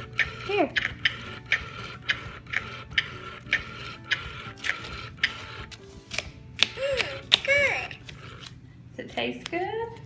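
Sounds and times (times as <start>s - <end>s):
faint motor whir: 0.0s - 10.0s.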